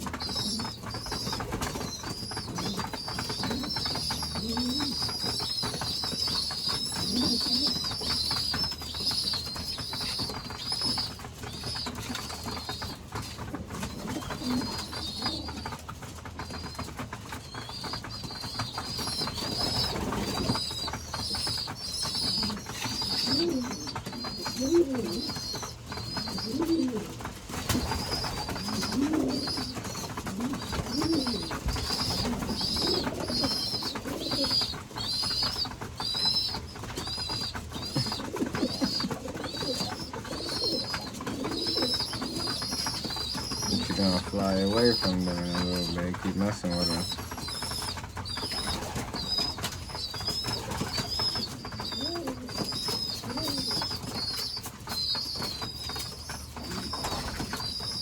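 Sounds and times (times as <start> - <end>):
adult pigeons cooing: 0.0 - 15.8, 17.5 - 58.0
young pigeons peeping: 0.0 - 58.0.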